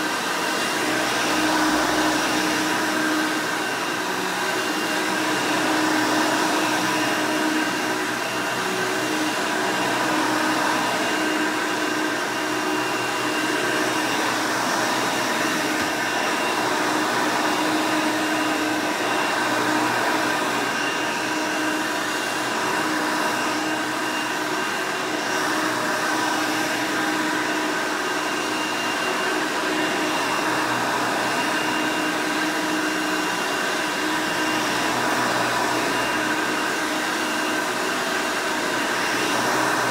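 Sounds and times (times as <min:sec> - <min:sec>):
upright vacuum running: 0:00.0 - 0:39.9.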